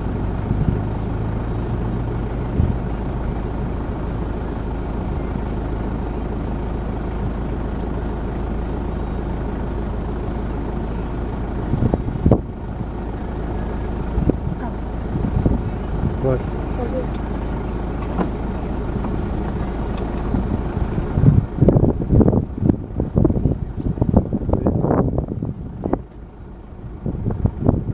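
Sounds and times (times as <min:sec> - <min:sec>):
vehicle engine idling: 0:00.0 - 0:27.9.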